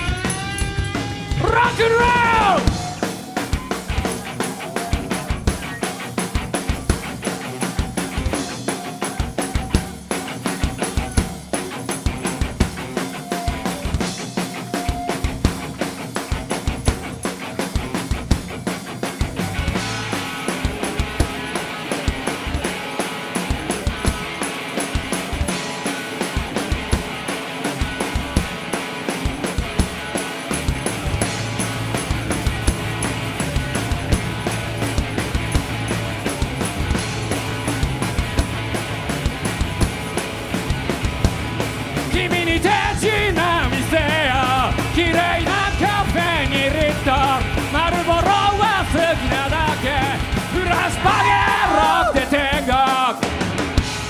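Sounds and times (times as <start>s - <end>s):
fast driving drum beat: 0.0s - 54.0s
rock band playing: 0.0s - 54.0s.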